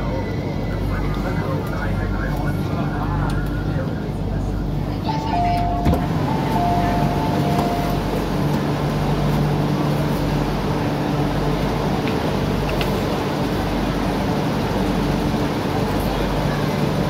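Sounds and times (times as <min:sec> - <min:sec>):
low hum of stationary train: 0:00.0 - 0:17.0.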